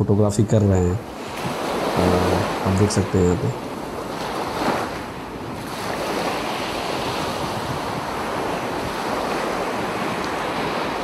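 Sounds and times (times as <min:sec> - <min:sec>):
sea waves rushing: 0:00.0 - 0:11.0
wind buffeting microphone: 0:00.0 - 0:11.0.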